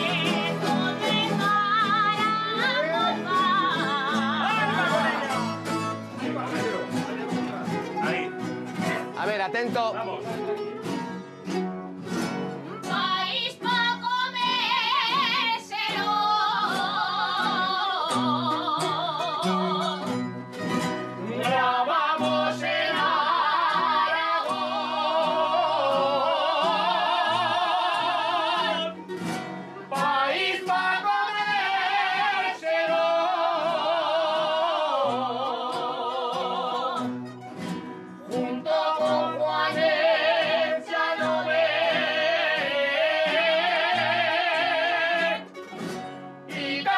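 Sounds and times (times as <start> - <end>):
people singing with vibrato: 0.0 - 9.2, 12.8 - 20.2, 21.1 - 45.6, 46.4 - 46.9
strummed and plucked guitars: 0.0 - 46.9.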